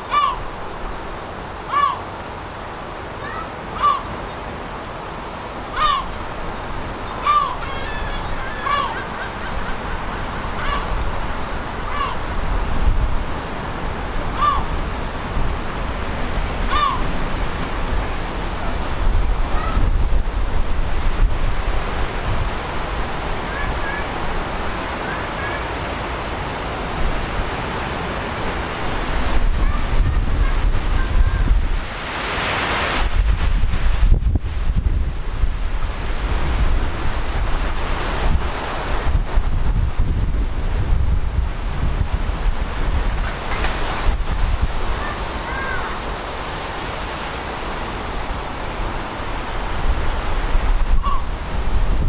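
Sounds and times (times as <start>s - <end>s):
rushing outdoor background: 0.0s - 52.0s
wind buffeting microphone: 4.6s - 52.0s.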